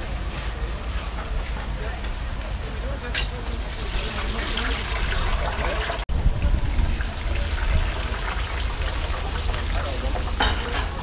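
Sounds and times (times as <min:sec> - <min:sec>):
oil sizzling and bubbling in fryer: 0:00.0 - 0:11.0.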